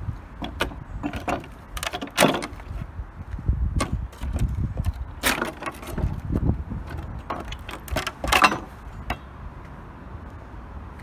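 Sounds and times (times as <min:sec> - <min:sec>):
steady low rumble: 0:00.0 - 0:01.8, 0:02.4 - 0:11.0.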